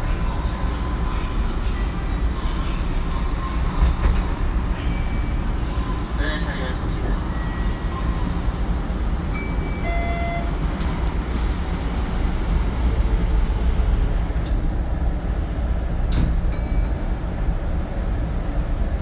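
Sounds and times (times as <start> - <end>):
train wheels and motors rumbling: 0.0 - 19.0.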